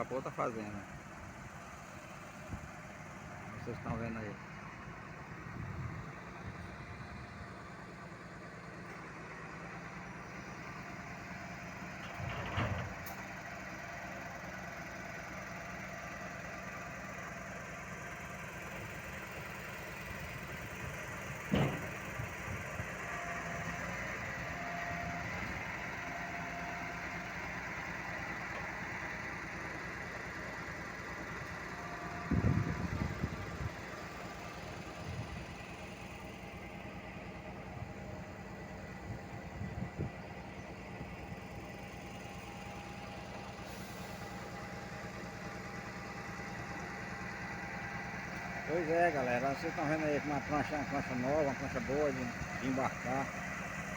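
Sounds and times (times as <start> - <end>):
diesel tractor engine running: 0.0 - 53.9.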